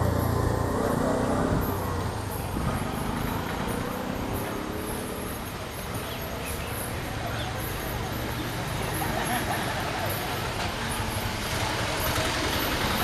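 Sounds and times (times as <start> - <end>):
diesel bus engine passing: 0.0 - 13.0.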